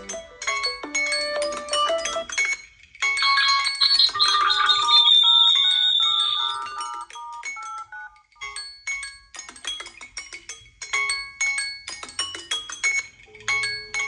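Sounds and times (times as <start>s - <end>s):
overlapping phone ringtone melodies: 0.0s - 14.0s.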